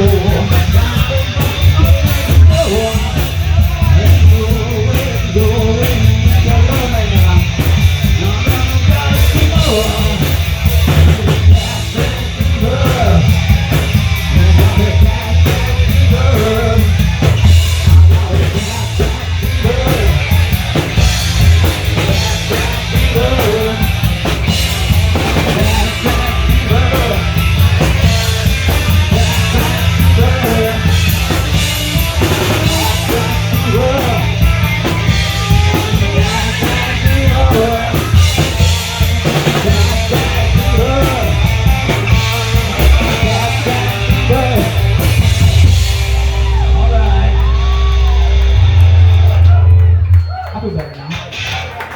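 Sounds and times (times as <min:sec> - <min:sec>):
pounding drum kit: 0:00.0 - 0:51.9
punk rock band playing: 0:00.0 - 0:51.9.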